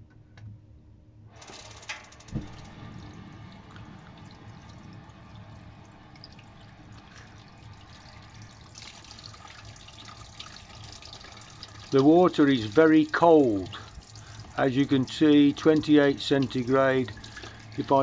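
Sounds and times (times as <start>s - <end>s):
tap water running: 1.4s - 18.0s.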